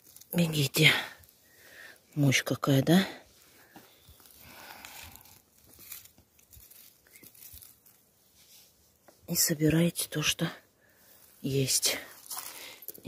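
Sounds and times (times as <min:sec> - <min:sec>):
forest floor rustling and crackling: 0:00.0 - 0:13.0.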